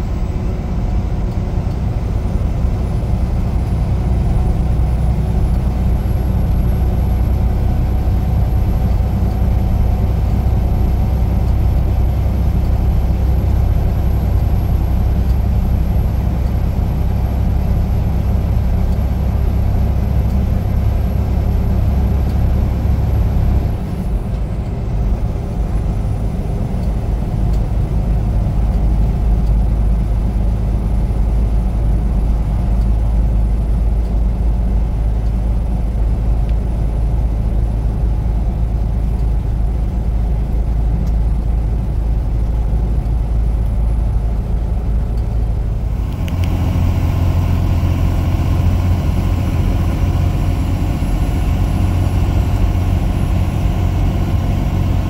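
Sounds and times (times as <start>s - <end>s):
road noise: 0.0s - 55.0s
truck engine: 0.0s - 55.0s.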